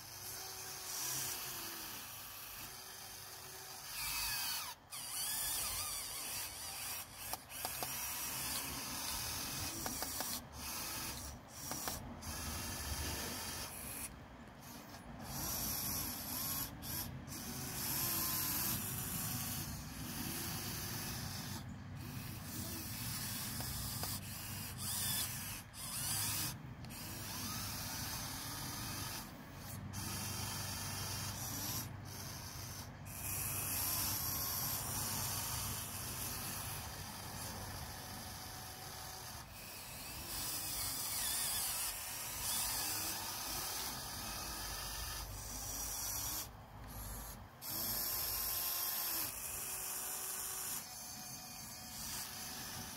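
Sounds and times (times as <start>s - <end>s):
toy excavator motors whirring: 0.0s - 52.9s.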